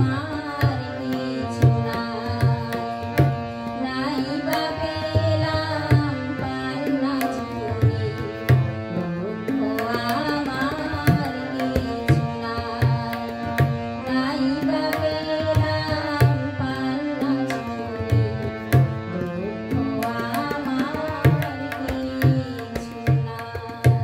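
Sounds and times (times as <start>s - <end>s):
harmonium: 0.0s - 24.0s
woman singing: 0.0s - 24.0s.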